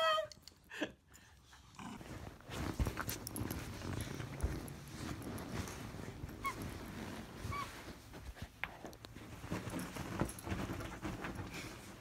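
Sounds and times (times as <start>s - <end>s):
rustling of cloth: 1.9s - 12.0s.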